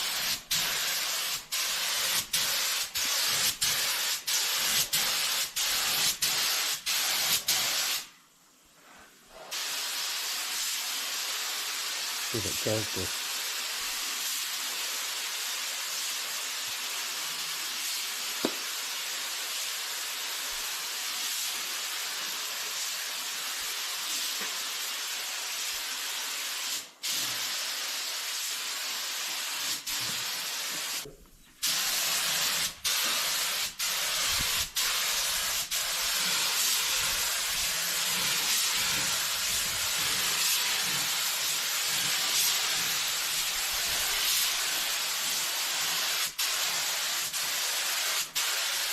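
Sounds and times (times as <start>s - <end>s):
compressed air hissing: 0.0s - 8.1s, 9.3s - 48.9s.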